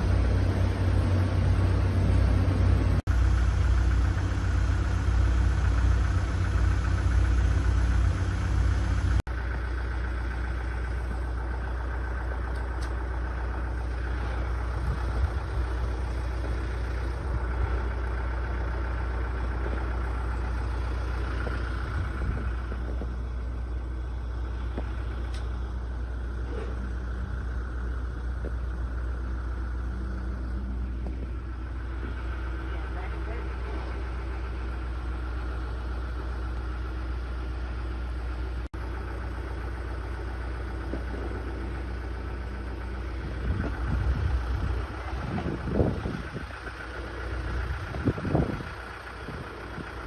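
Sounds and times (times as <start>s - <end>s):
engine running with low rumble: 0.0s - 50.0s.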